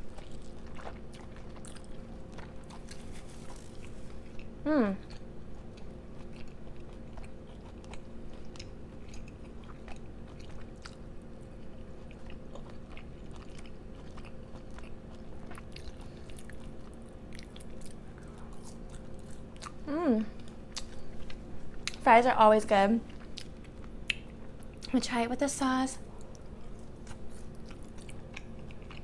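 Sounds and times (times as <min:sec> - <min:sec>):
person chewing food: 0:00.0 - 0:22.0, 0:23.0 - 0:24.9, 0:26.2 - 0:29.0
electrical hum: 0:00.0 - 0:29.0.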